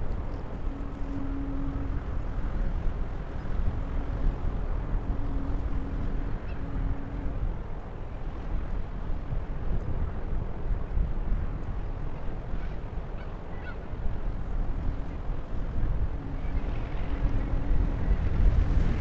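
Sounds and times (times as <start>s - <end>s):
faint steady hum: 0.0s - 19.0s
large ship rumble: 0.0s - 19.0s
wind buffeting microphone: 0.0s - 19.0s.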